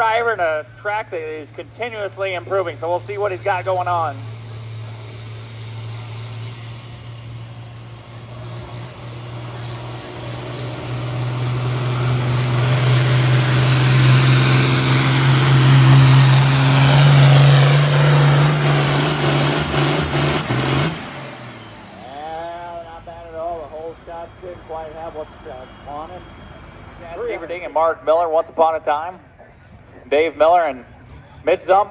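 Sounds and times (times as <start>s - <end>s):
tractor engine at full throttle: 0.0s - 28.4s.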